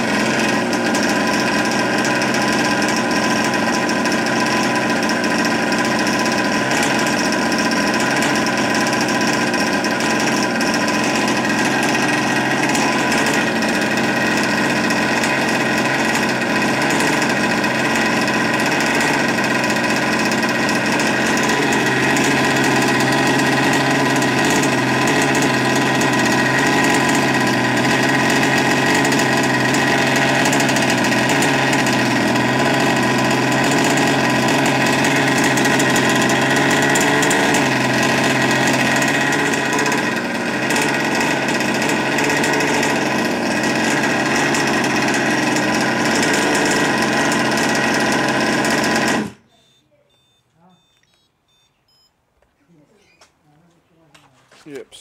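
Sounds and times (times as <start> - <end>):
two-stroke engine idling: 0.0 - 49.6.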